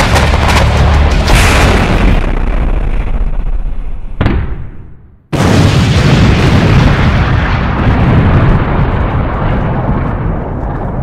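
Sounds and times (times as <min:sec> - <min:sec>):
explosion rumble: 0:00.0 - 0:11.0.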